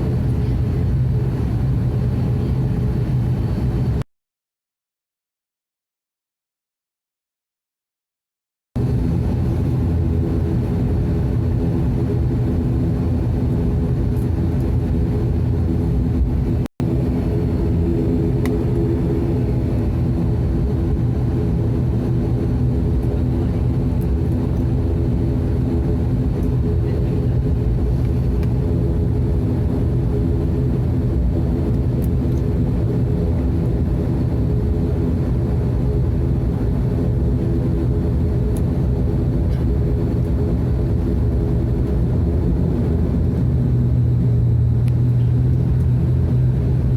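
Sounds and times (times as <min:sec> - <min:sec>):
propeller engines droning: 0:00.0 - 0:04.0, 0:08.8 - 0:46.9.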